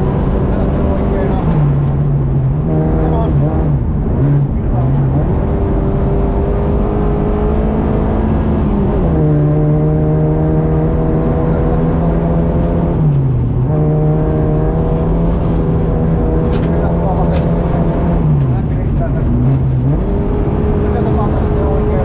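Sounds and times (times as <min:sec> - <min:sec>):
rally car engine running hard: 0:00.0 - 0:22.0
road and tyre noise: 0:00.0 - 0:22.0.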